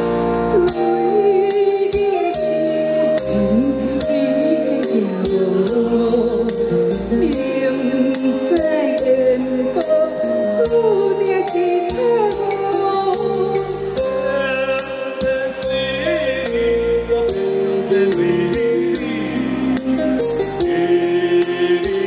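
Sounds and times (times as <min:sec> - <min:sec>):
instrumental accompaniment with beat: 0:00.0 - 0:22.0
woman singing a ballad: 0:00.0 - 0:22.0.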